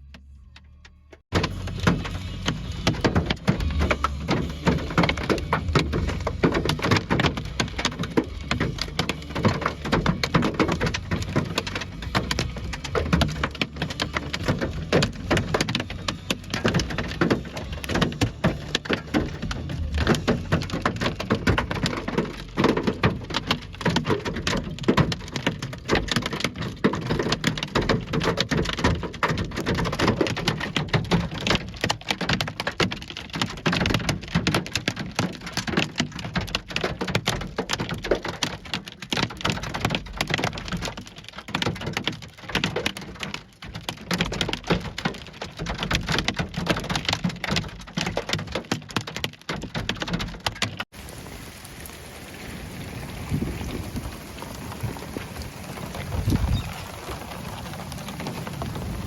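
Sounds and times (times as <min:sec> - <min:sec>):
hailstones clattering: 0:01.3 - 0:59.0.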